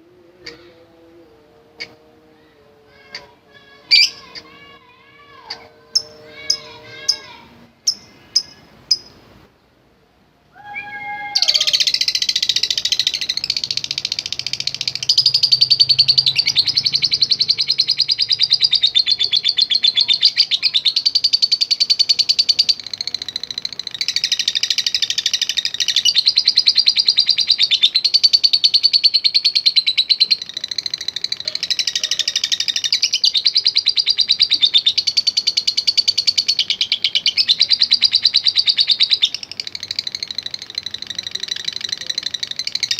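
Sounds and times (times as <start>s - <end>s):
lovebird chattering trill: 2.9s - 9.2s, 11.4s - 42.9s.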